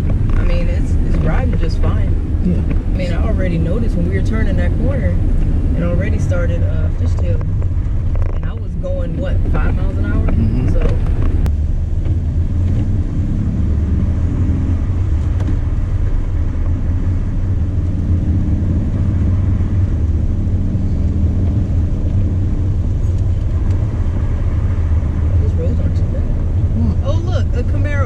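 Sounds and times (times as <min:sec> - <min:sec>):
car engine rumble: 0:00.0 - 0:28.0.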